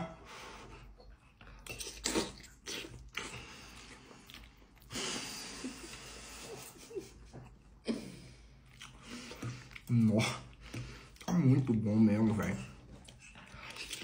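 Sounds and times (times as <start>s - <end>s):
man chewing food: 0.2s - 14.0s.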